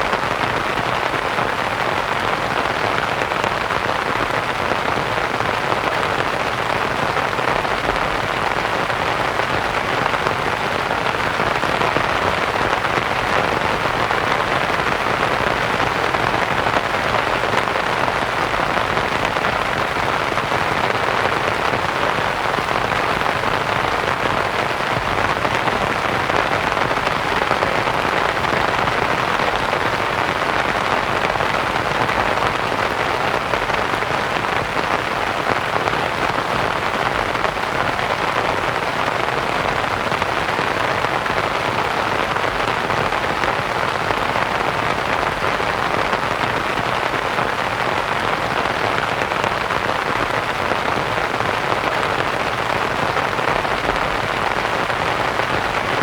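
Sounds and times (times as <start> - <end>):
rain pattering on a tent: 0.0 - 56.0.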